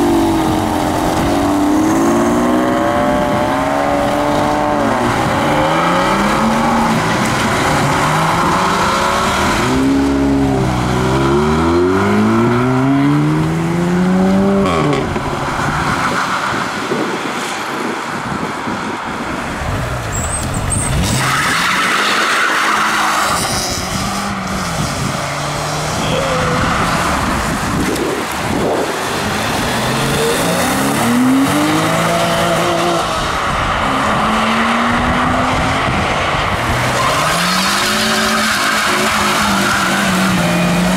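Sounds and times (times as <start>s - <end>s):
sports car engines revving: 0.0s - 40.9s.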